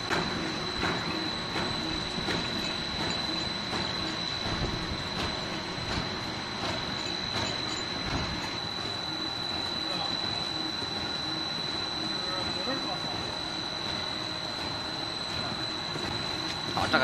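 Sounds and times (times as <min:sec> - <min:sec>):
machinery high whine: 0:00.0 - 0:17.0.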